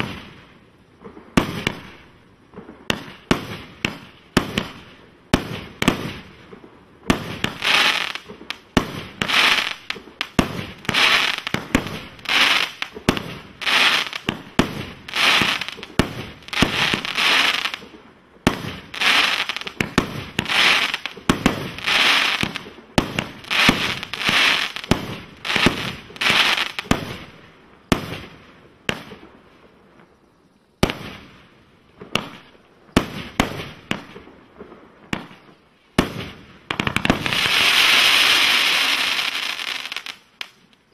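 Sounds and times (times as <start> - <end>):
firework bangs: 0.0 - 29.3, 30.8 - 31.4, 32.0 - 40.6
firework stars crackling: 0.0 - 40.9.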